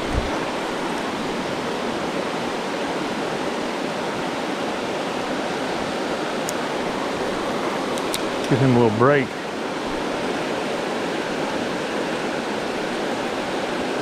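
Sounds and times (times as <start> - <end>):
creek rushing over rocks: 0.0 - 14.0.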